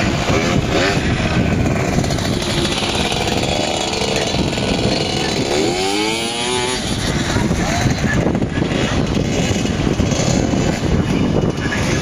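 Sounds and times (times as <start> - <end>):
two-stroke motorbike engine buzzing: 0.0 - 12.0.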